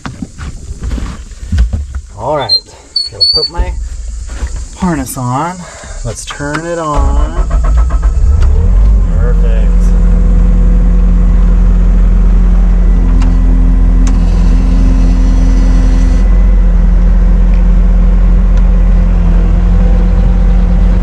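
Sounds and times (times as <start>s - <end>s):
high steady whine: 0.0s - 21.0s
skid steer engine running: 3.2s - 21.0s.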